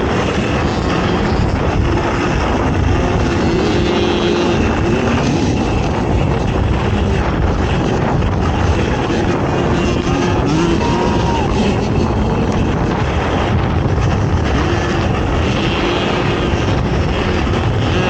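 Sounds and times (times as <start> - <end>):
atv engine revving: 0.0 - 18.0
wind noise: 0.0 - 18.0.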